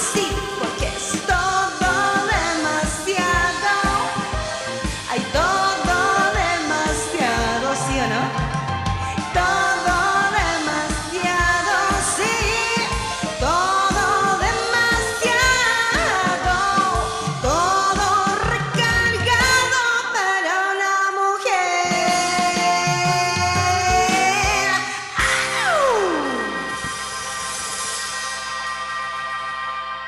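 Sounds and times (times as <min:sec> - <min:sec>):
rock band playing: 0:00.0 - 0:20.0, 0:21.8 - 0:30.0
woman singing: 0:00.0 - 0:27.0.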